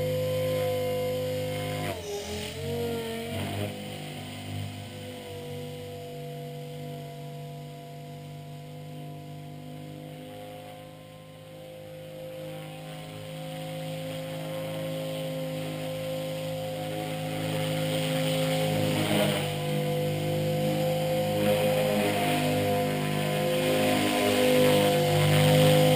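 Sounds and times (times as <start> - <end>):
rc helicopter motor and rotors whining: 0.0 - 25.9.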